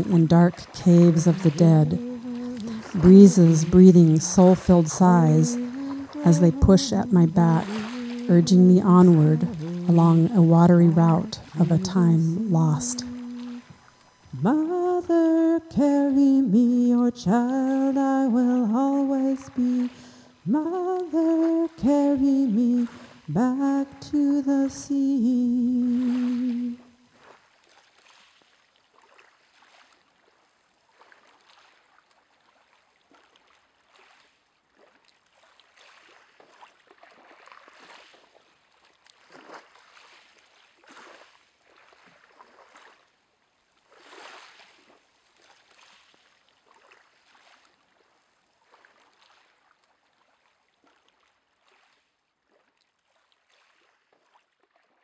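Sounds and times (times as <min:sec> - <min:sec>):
water sloshing and splashing: 0:00.0 - 0:55.0.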